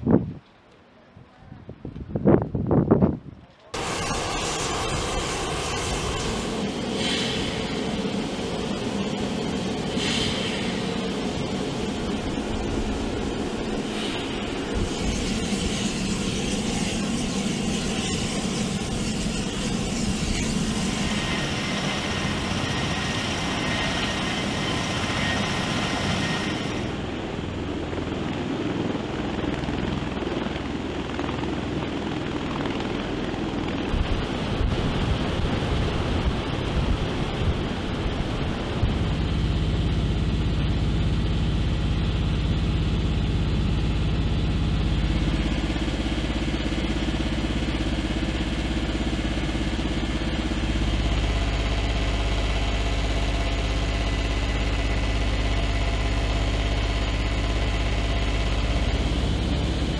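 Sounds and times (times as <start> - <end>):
aircraft rotors fluttering: 2.4 - 59.9
aircraft engine drone in cockpit: 3.8 - 59.9.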